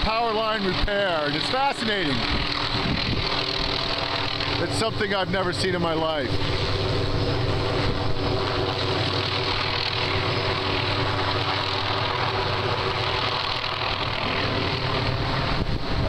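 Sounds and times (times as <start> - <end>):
helicopter engine drone: 0.0 - 16.0
rushing noise: 0.0 - 16.0.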